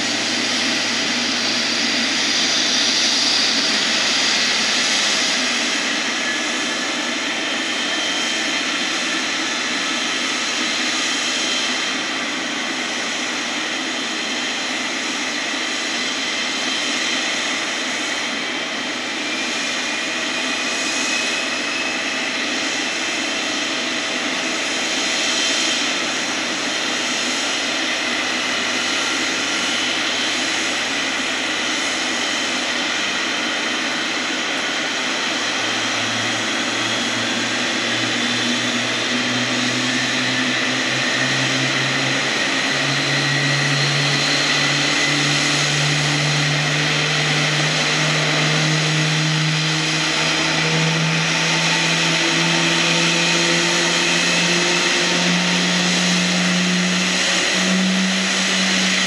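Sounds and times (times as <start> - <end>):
high jet engine whine: 0.0 - 59.0
jet engine drone rising in pitch: 0.0 - 59.0.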